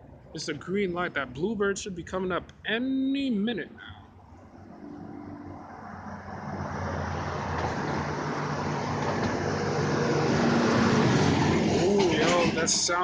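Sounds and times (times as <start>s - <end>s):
road noise: 0.0s - 13.0s
truck accelerating: 0.0s - 13.0s.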